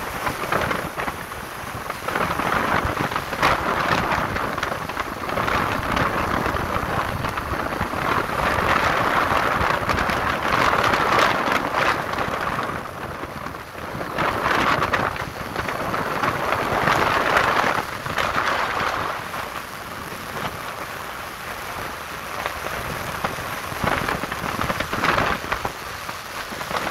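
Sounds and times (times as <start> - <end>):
motorcycle road noise: 0.0 - 26.9
wind rushing over microphone: 0.0 - 26.9.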